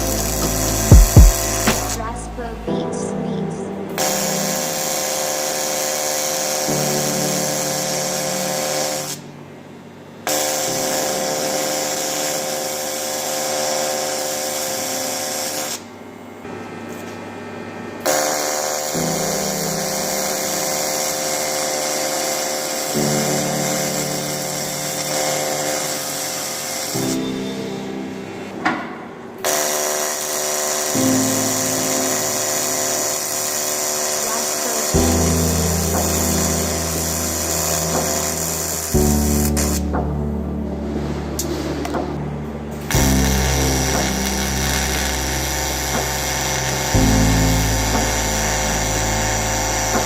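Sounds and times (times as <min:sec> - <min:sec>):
welding arc buzzing: 0:00.0 - 0:02.5, 0:04.0 - 0:09.3, 0:10.2 - 0:17.2, 0:18.0 - 0:28.8, 0:29.4 - 0:40.1, 0:41.4 - 0:50.0
background music: 0:00.0 - 0:09.4, 0:18.6 - 0:50.0.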